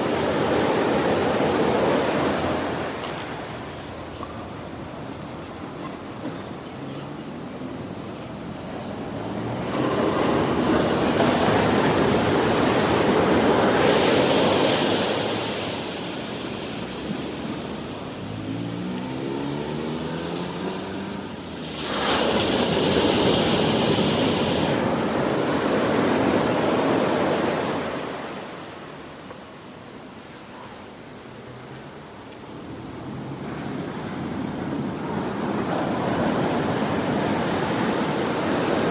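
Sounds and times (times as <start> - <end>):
waves breaking on sand: 0.0 - 6.3, 8.1 - 29.3, 32.5 - 38.9.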